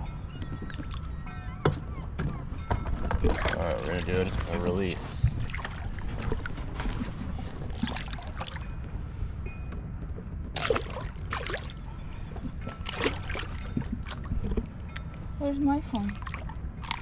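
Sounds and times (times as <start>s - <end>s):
water lapping around dinghy: 0.0s - 17.0s
wind rumble: 0.0s - 17.0s.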